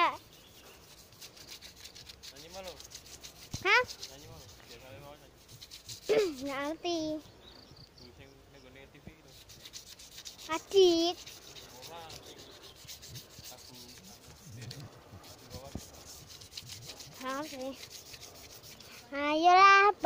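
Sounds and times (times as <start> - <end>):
faint rubbing crackling noise: 0.0 - 20.0.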